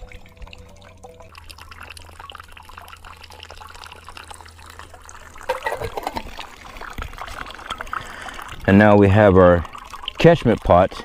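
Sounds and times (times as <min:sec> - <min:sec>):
water dripping into metal cup: 0:00.0 - 0:11.0.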